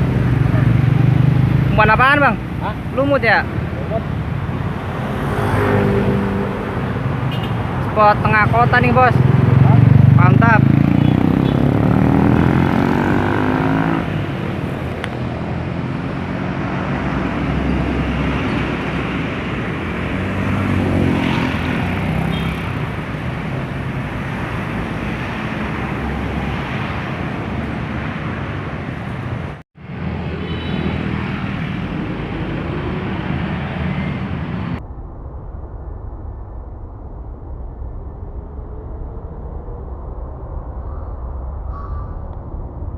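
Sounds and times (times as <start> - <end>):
vehicles passing by: 0.0 - 34.9
road traffic hum: 0.0 - 42.9.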